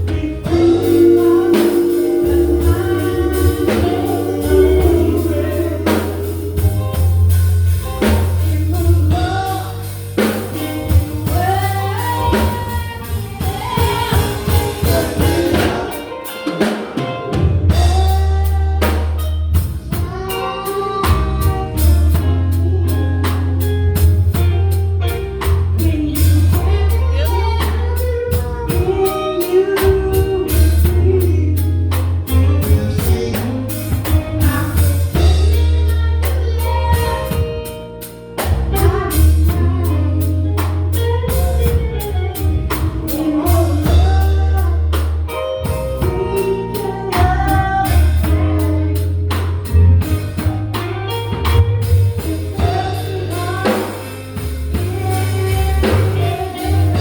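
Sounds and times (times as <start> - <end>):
person singing: 0.0 - 24.2, 25.6 - 57.0
gospel band playing: 0.0 - 57.0.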